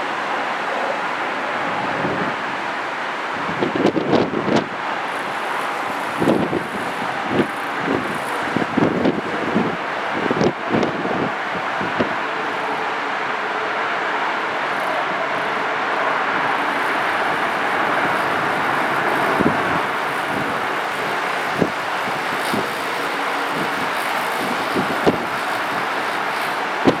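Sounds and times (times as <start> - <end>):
jet engines rushing: 0.0 - 27.0.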